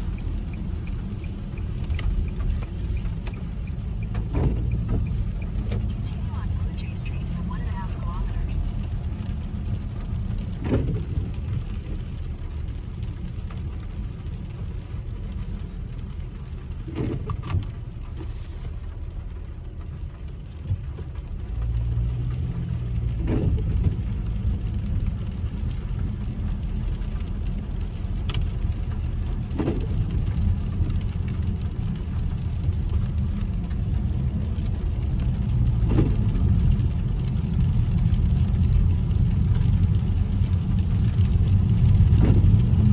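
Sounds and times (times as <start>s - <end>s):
car road and engine rumble: 0.0s - 42.9s
windshield wiper sweeps: 0.0s - 42.9s.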